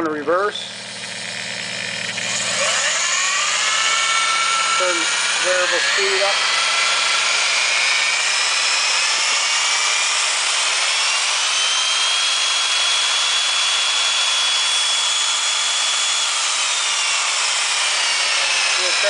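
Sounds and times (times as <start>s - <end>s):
drill motor whine: 0.0s - 19.0s.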